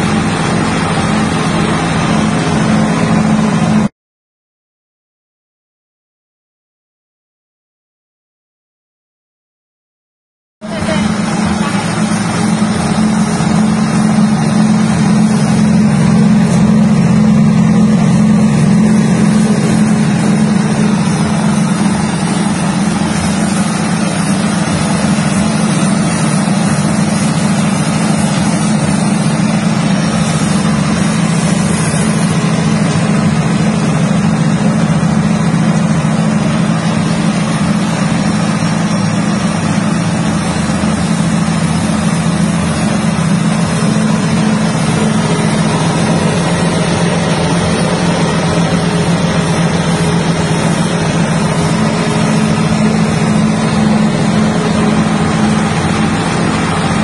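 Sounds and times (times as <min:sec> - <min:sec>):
machine hulling noise: 0:00.0 - 0:03.9, 0:10.6 - 0:57.0
small engine droning: 0:00.0 - 0:03.9, 0:10.6 - 0:57.0.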